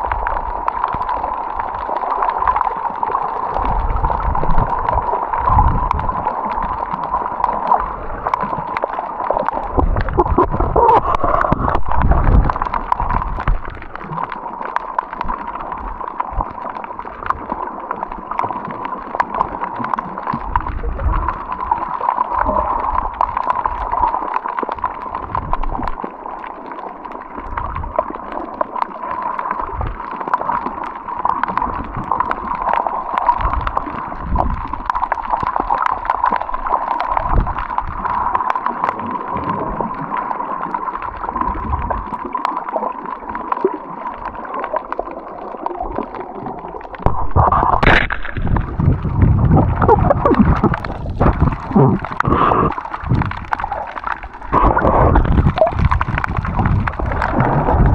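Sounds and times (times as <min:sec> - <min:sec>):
water gurgling and sloshing: 0:00.0 - 0:57.9.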